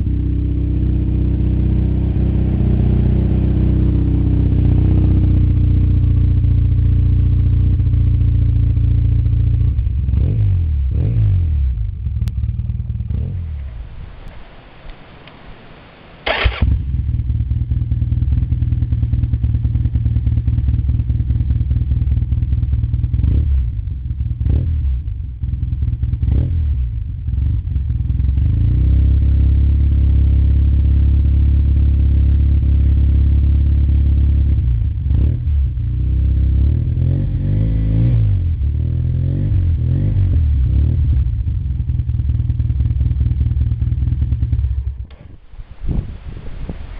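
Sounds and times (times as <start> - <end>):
motorcycle engine idling and revving: 0.0 - 46.5.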